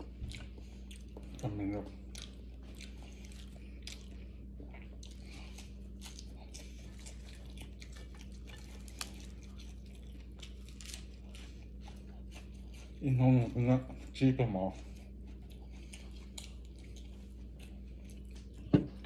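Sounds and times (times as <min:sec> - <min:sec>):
person chewing crunchy food: 0:00.0 - 0:19.0
steady low hum: 0:00.0 - 0:19.0.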